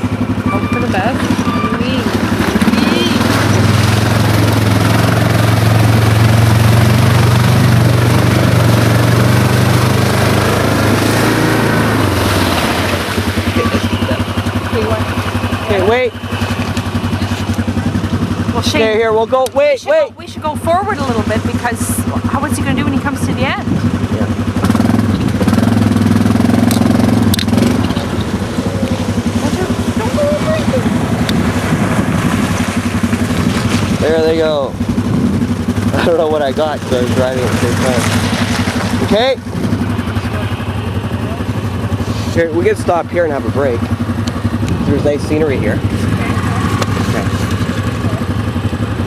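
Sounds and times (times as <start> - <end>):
quad bike engine running: 0.0 - 49.0
broad rushing noise: 1.0 - 18.8, 20.8 - 49.0.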